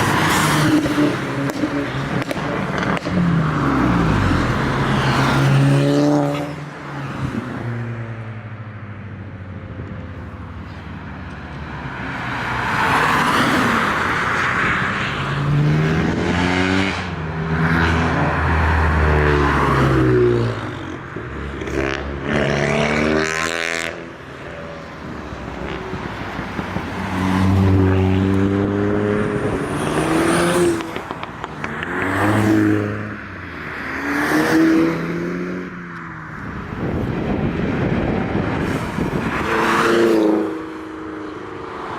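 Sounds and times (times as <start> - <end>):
cars accelerating past: 0.0 - 8.4, 11.2 - 41.9.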